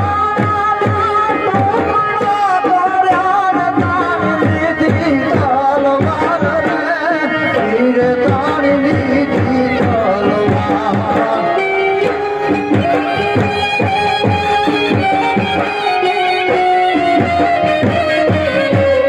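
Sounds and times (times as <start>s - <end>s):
harmonium playing ornamented melody: 0.0s - 19.0s
quick hand-drum rhythm: 0.0s - 19.0s.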